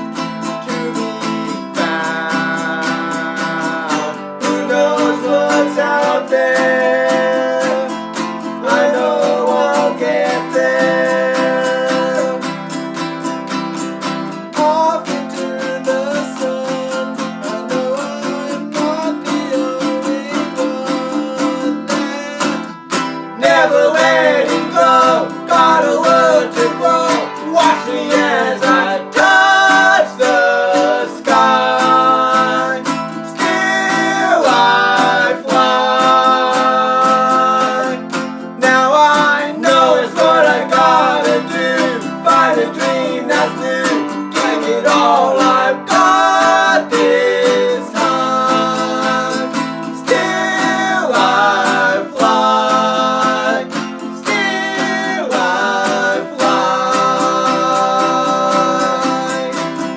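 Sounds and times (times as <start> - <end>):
guitar melody line: 0.0 - 59.9
strummed acoustic guitar: 0.0 - 59.9.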